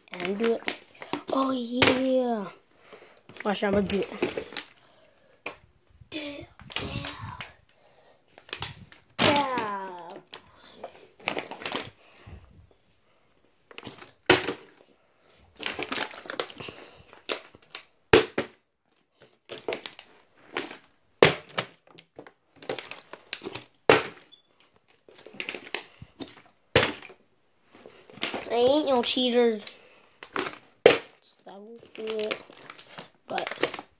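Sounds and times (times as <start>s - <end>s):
plastic bottle crinkling: 0.0s - 2.3s, 3.0s - 5.6s, 8.3s - 12.2s, 13.7s - 14.8s, 15.5s - 33.9s.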